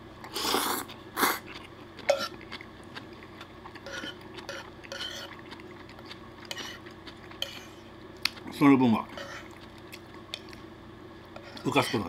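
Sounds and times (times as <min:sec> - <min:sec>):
soft eating noises: 0:00.2 - 0:12.0.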